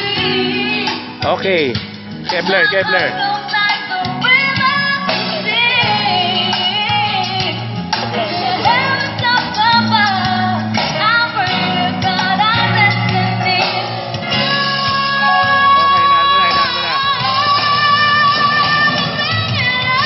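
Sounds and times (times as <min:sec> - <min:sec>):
song with lead singer: 0:00.0 - 0:20.0
steady bass line: 0:00.0 - 0:20.0.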